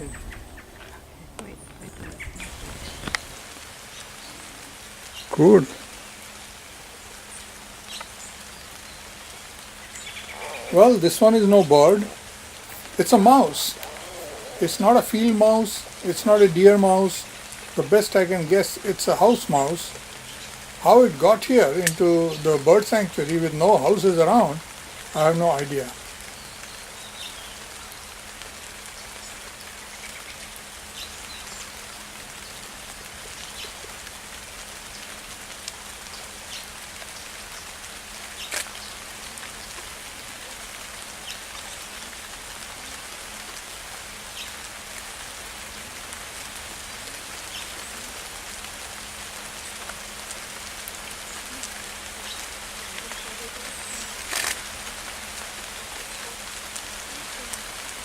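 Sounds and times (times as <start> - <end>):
sharp taps of raindrops: 0.0 - 58.0
steady rain falling: 0.0 - 58.0.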